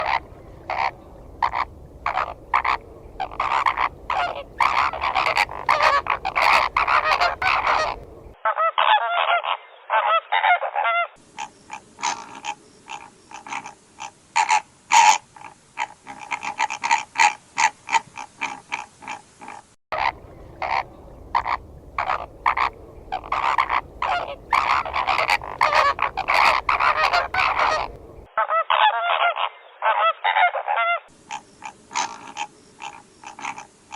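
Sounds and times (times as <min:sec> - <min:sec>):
flamingos honking: 0:00.0 - 0:33.9.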